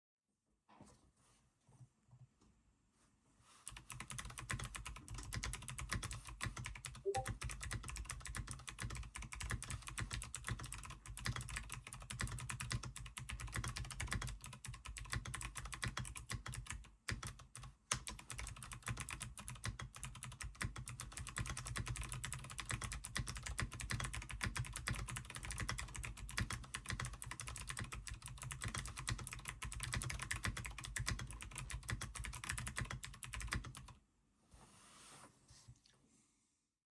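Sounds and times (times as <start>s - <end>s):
fast mechanical keyboard typing: 3.7s - 34.0s.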